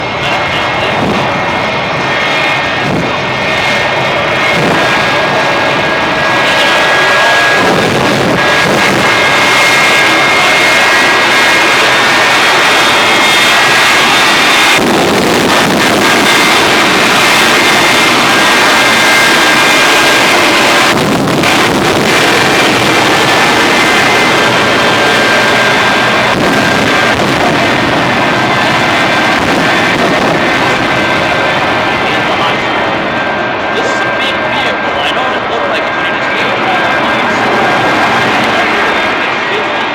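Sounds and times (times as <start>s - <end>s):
high turbine whine: 0.0s - 39.9s
jet engines roaring: 0.0s - 39.9s.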